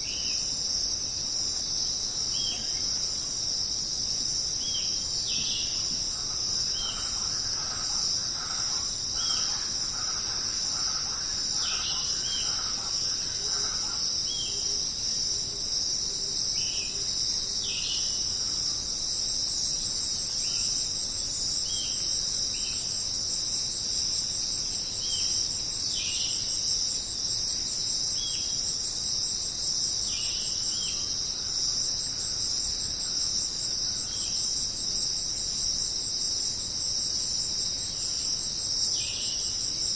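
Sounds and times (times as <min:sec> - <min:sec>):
jungle insects buzzing: 0:00.0 - 0:39.9.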